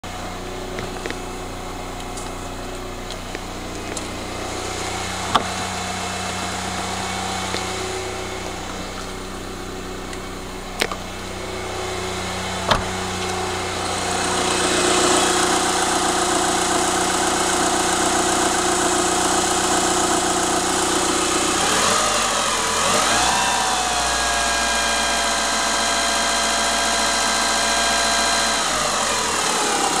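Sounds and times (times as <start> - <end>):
car engine running with knock: 0.1 - 30.0.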